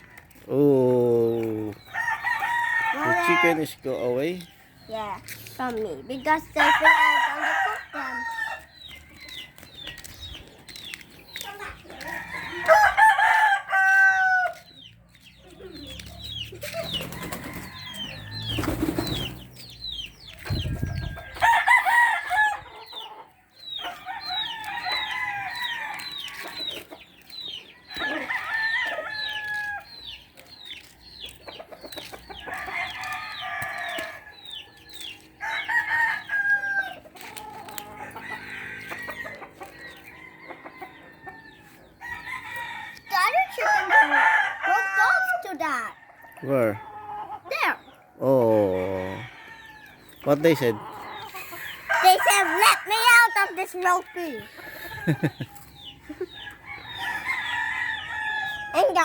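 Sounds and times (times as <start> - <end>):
roosters crowing: 0.0 - 4.8, 6.5 - 10.6, 11.3 - 14.9, 15.7 - 30.2, 30.8 - 59.0
chickens chirping and clucking: 0.0 - 59.0.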